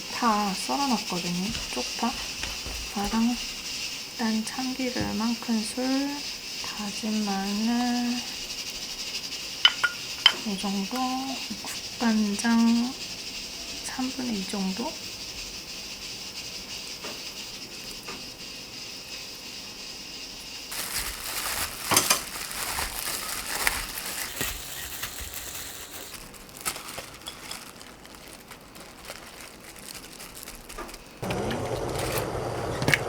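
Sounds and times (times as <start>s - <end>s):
bean sprouts rustling in a bowl: 0.0s - 19.8s, 20.4s - 31.2s
steady hiss: 0.0s - 31.3s.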